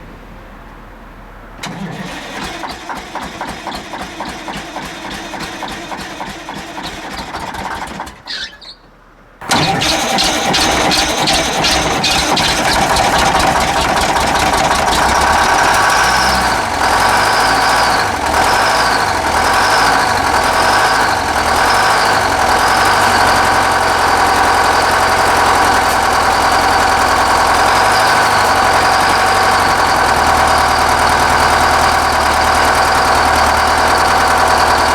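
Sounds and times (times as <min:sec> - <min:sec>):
diesel engine running: 0:01.0 - 0:08.2, 0:09.4 - 0:34.9.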